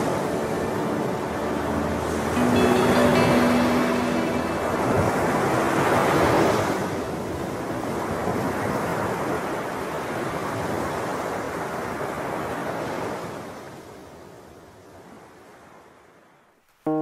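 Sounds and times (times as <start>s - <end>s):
wave breaking on shore: 0.0s - 14.0s.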